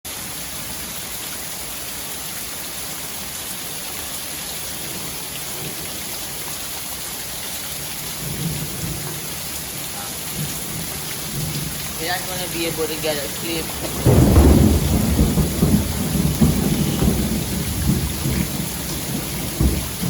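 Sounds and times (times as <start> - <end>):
steady rain falling: 0.1 - 20.0.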